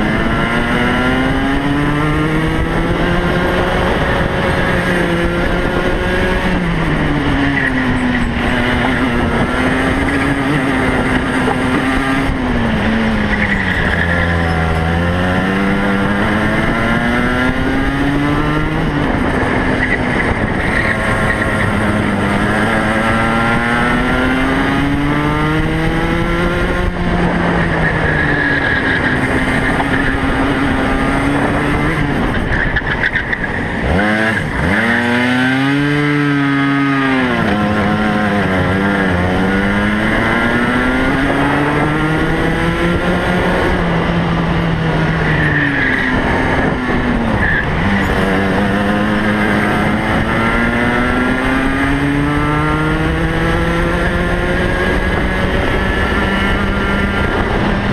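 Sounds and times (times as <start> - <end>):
kart engine at race pace: 0.0 - 57.9.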